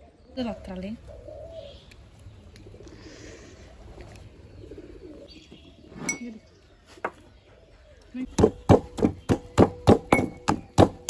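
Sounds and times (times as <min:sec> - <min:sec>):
bird calls: 0:00.0 - 0:11.0.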